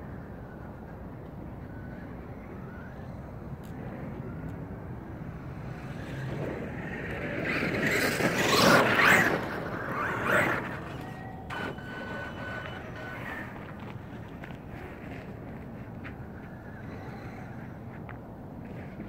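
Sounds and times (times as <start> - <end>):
rc truck motor whine: 0.0 - 17.7.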